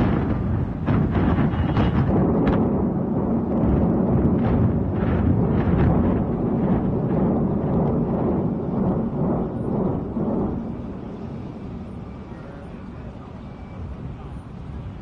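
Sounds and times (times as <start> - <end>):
building collapsing rumble: 0.0 - 13.2.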